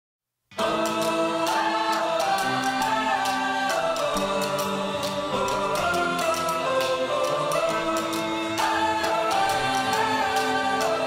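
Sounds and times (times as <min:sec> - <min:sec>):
held chords over steady beat: 0:00.6 - 0:11.0.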